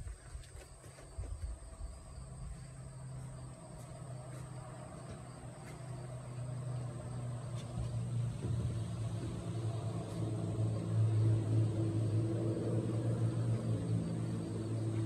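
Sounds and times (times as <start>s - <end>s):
engine drone: 0.8s - 15.0s.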